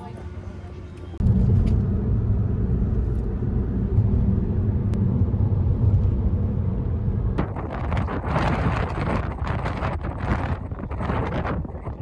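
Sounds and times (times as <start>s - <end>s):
car road rumble: 1.0s - 12.0s.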